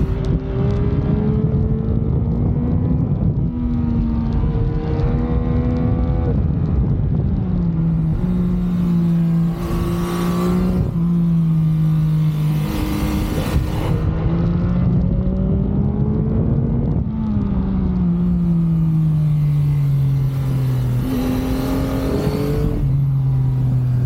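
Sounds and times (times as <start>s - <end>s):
motorcycle engine and exhaust: 0.0s - 24.0s
wind rush: 0.0s - 24.0s.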